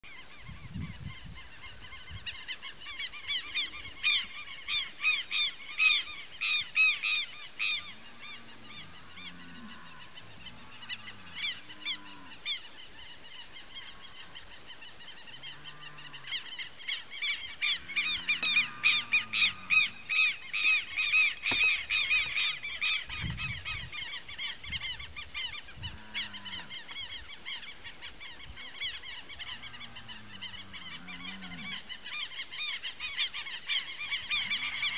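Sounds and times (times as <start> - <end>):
softer lower bird calls: 0.1 - 34.9.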